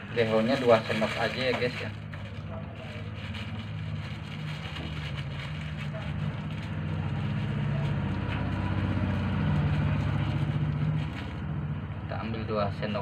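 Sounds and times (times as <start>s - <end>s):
motor engine running: 0.0s - 12.2s.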